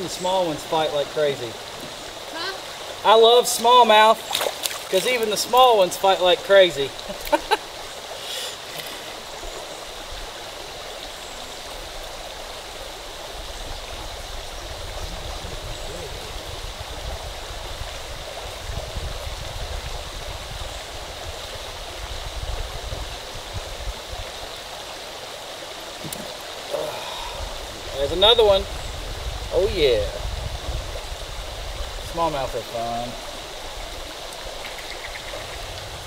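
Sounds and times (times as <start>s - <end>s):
river water rushing over rocks: 0.0s - 30.0s, 30.6s - 36.0s.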